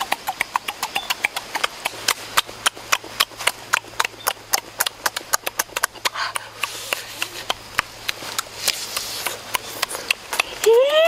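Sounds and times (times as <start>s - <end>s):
lip-smacking and chewing: 0.0s - 11.0s.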